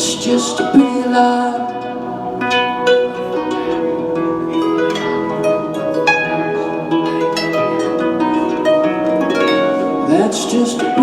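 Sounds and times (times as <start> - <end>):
harp plucked notes: 0.0 - 11.0.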